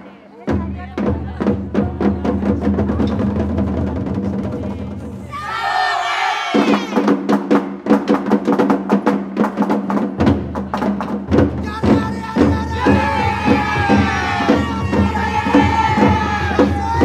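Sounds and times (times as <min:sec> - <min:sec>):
rapid percussion strikes: 0:00.4 - 0:05.6, 0:06.5 - 0:17.0.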